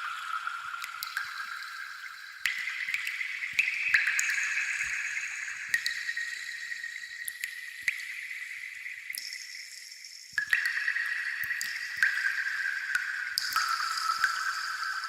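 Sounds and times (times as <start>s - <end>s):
raindrops dripping: 0.0s - 15.0s.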